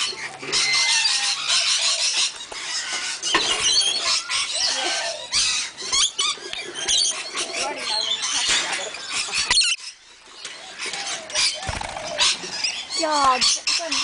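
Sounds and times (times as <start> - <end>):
lorikeets chattering: 0.0 - 14.0.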